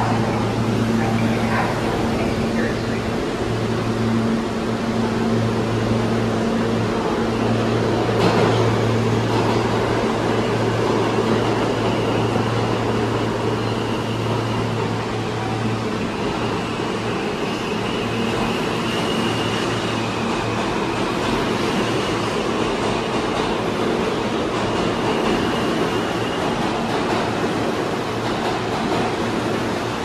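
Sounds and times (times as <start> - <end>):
train equipment humming: 0.0 - 30.0.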